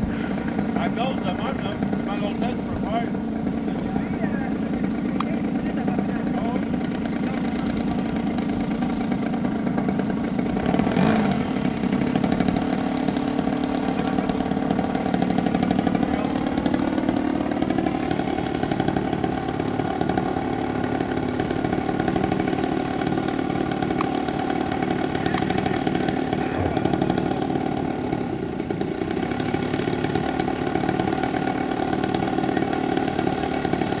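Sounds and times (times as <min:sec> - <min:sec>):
model plane engine running: 0:00.0 - 0:34.0.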